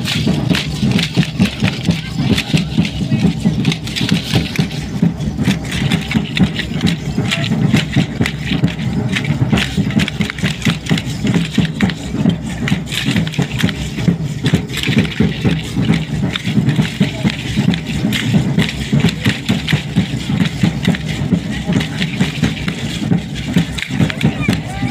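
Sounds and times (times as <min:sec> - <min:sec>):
hand rattles rattling: 0:00.0 - 0:24.9
low drum beat: 0:00.0 - 0:24.9.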